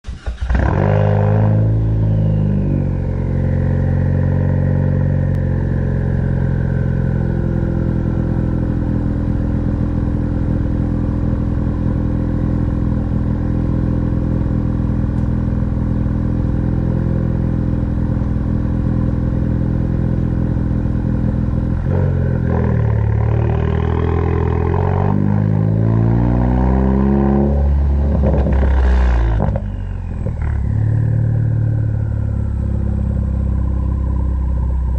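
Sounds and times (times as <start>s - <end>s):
car engine revving and idling: 0.1s - 34.9s.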